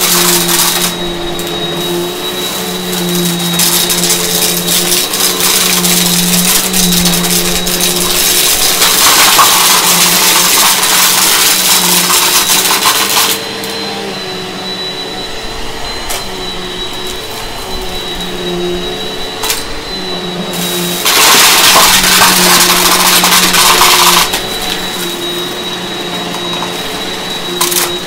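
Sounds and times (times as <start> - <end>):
debris rattling in vacuum: 0.0 - 13.9, 15.8 - 28.0
vacuum cleaner motor humming: 0.0 - 28.0.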